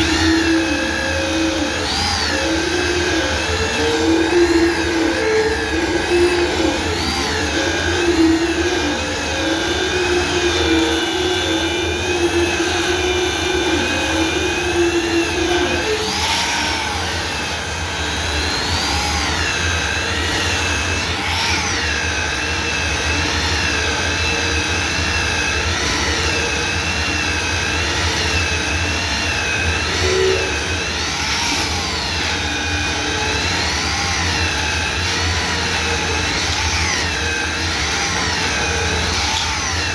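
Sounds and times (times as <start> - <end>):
machine motor whining: 0.0 - 39.9.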